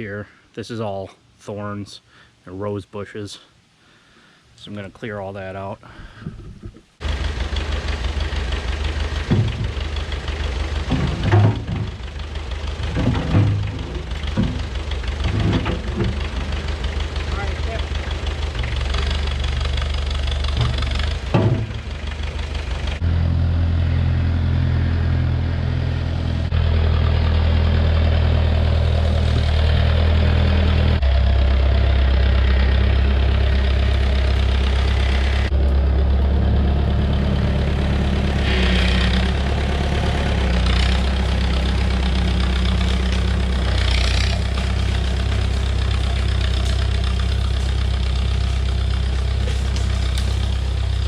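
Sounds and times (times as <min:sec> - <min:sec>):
tractor engine running: 0:06.3 - 0:51.0.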